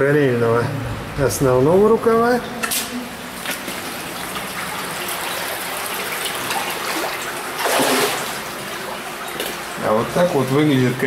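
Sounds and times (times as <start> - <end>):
water rushing: 0.4 - 11.0
water flowing and trickling: 1.2 - 11.0.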